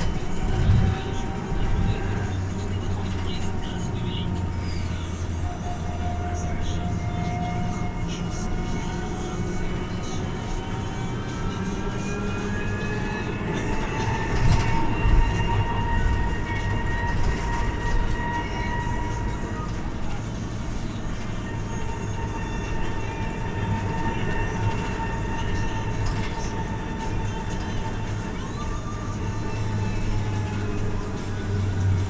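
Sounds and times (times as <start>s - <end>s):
road and body noise: 0.0s - 32.0s.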